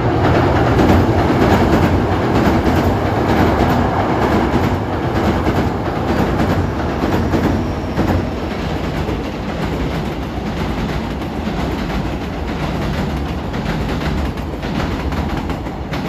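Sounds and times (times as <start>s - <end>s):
train wheels rumbling on bridge: 0.0s - 16.0s.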